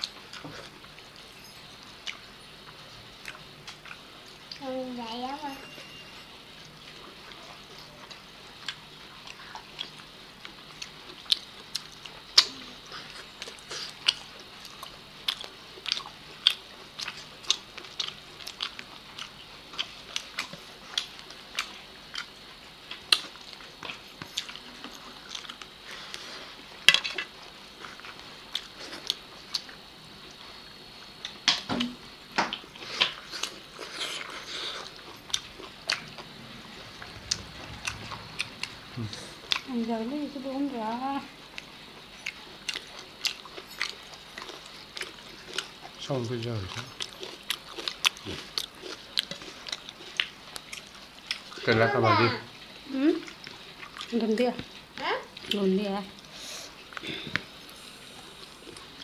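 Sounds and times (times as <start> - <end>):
chewing and biting: 0.0 - 4.6, 6.6 - 30.4, 32.5 - 39.7, 41.4 - 51.7, 52.6 - 55.6.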